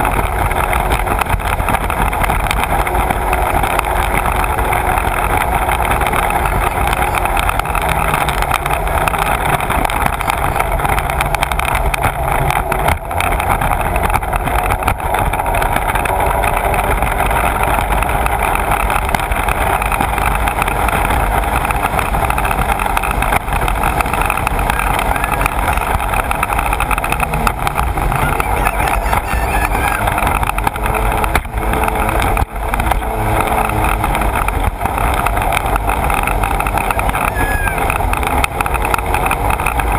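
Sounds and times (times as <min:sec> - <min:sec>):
personal watercraft engine: 0:00.0 - 0:39.9.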